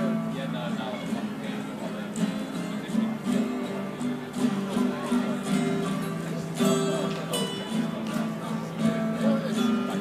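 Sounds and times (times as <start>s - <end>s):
guitars playing together: 0.0s - 10.0s.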